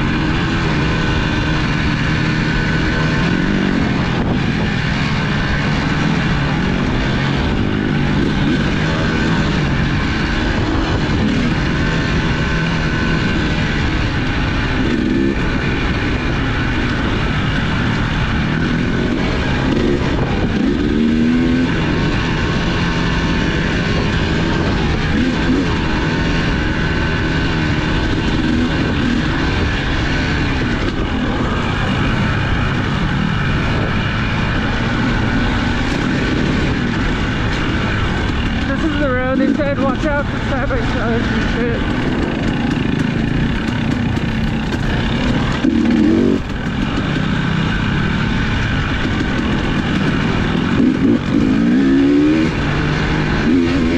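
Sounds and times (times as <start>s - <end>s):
off-road vehicle engine revving: 0.0s - 53.9s
steady rush of noise: 0.0s - 53.9s.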